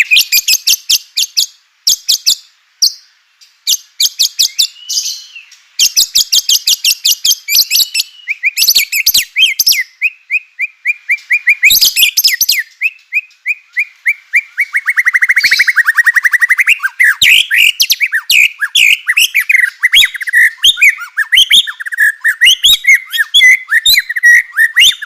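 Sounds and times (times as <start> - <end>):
songbird chattering song: 0.0 - 25.0.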